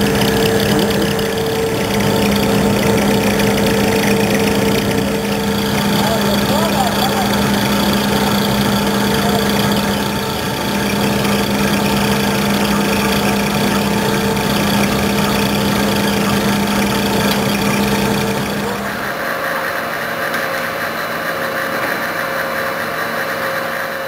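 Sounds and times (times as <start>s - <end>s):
lathe machining drone: 0.0s - 24.0s
machine whine: 0.0s - 24.0s.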